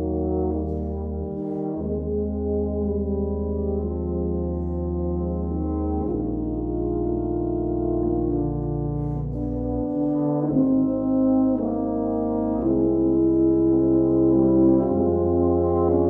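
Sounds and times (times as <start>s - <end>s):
tuba and euphonium chords: 0.0s - 16.0s.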